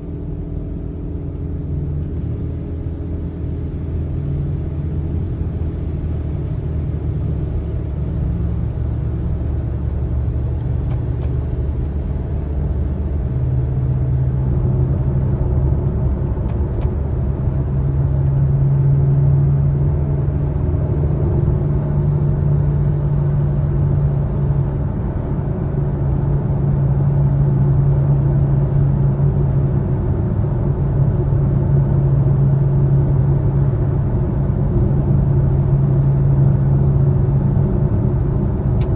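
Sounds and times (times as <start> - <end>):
car rumble: 0.0 - 38.9.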